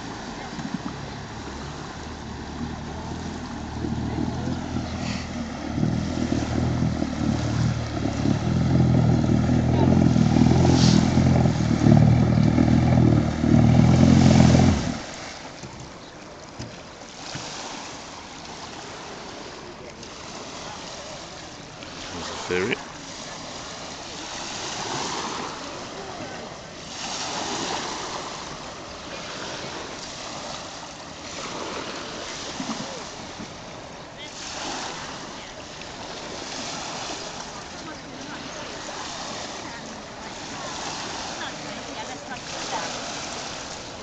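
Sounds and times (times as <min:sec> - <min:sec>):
boat engine running: 0:00.0 - 0:16.9, 0:18.7 - 0:44.0
faint water noise: 0:00.0 - 0:44.0.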